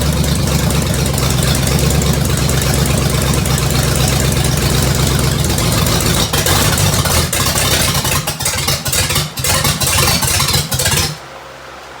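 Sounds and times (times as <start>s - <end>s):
car engine running: 0.0s - 11.4s.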